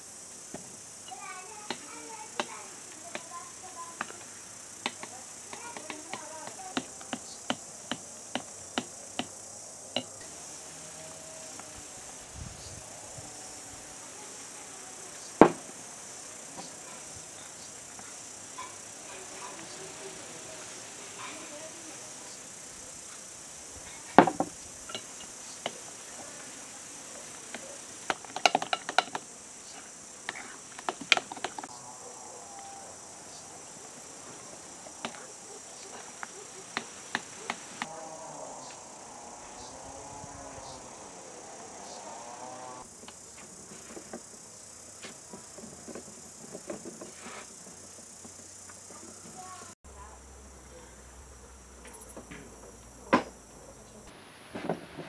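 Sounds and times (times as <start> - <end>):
high-pitched insect hum: 0.0 - 54.1.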